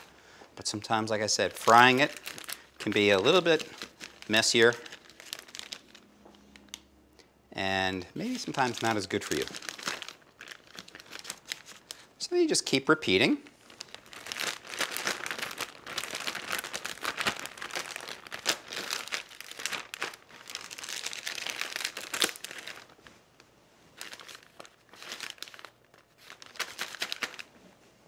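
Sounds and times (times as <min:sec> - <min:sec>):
plastic bag crinkling: 0:00.8 - 0:06.8, 0:08.2 - 0:12.2, 0:13.0 - 0:23.2, 0:23.9 - 0:27.5.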